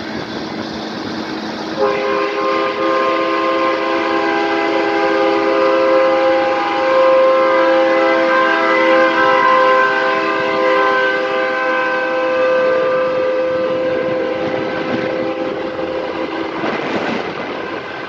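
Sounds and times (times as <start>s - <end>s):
rushing noise: 0.0s - 18.0s
multi-note air horn chord: 1.8s - 18.0s.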